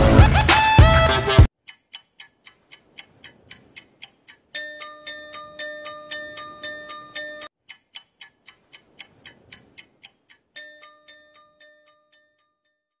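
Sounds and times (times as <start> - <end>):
clock-like ticking: 0.1 - 13.0.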